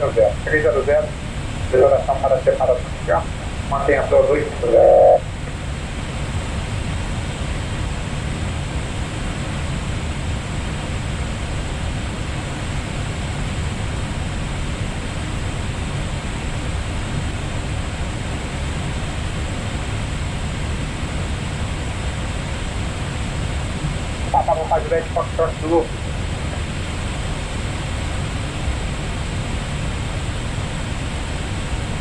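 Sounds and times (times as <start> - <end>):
cockpit airflow and engine noise: 0.0 - 32.0.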